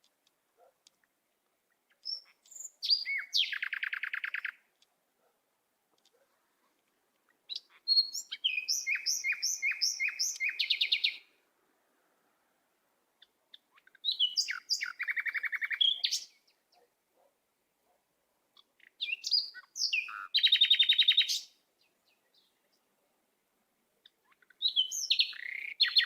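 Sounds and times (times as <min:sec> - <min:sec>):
songbird chirping and trilling: 0:00.0 - 0:05.3, 0:05.9 - 0:11.5, 0:13.0 - 0:23.0, 0:23.7 - 0:26.0.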